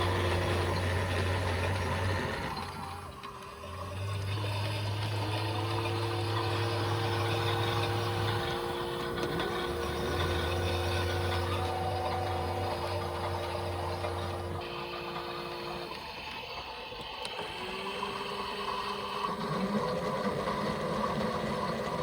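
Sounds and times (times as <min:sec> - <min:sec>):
higher motor hum: 0:00.0 - 0:22.0
low motor hum: 0:00.0 - 0:22.0.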